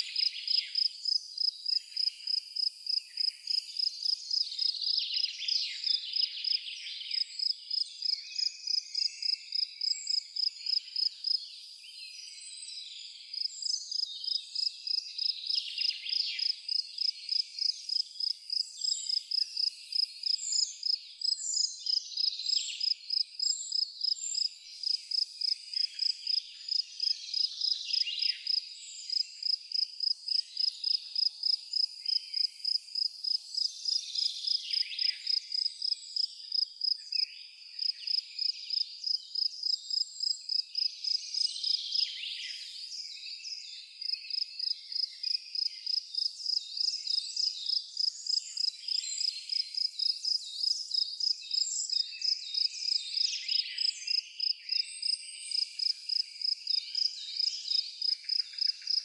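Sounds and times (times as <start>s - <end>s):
cricket chirping: 0.0s - 11.4s, 13.3s - 42.7s, 44.0s - 59.0s.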